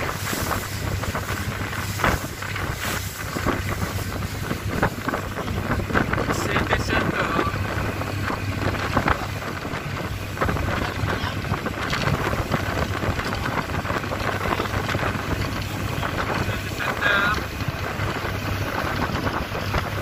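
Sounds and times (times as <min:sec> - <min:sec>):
boat engine hum: 0:00.0 - 0:20.0
wind buffeting microphone: 0:00.0 - 0:20.0.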